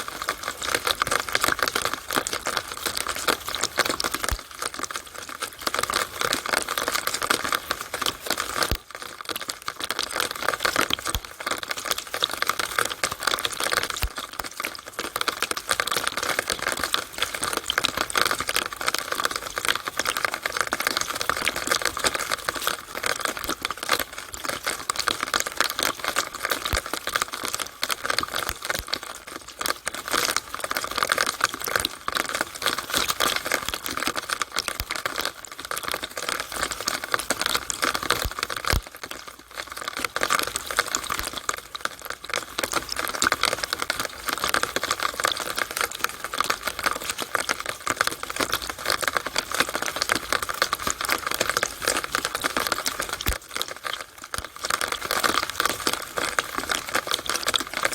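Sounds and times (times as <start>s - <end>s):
rainwater dripping in downspout: 0.0s - 57.9s.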